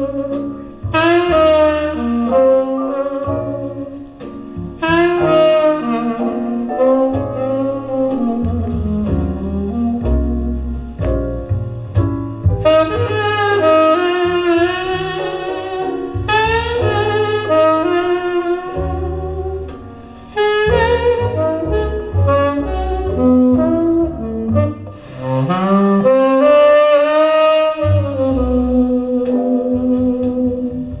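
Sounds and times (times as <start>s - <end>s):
saxophone melody: 0.0s - 11.0s, 12.6s - 31.0s
bass line: 0.0s - 31.0s.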